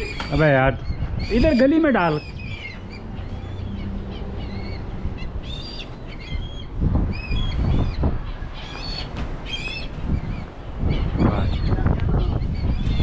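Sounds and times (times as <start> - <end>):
kites squealing calls: 0.0 - 13.0
low rumbling wind gusts: 0.0 - 13.0.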